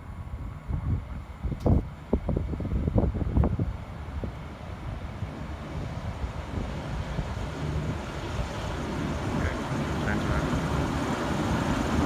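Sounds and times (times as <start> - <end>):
diesel train rumbling: 0.0 - 12.0
wind noise on microphone: 0.0 - 12.0.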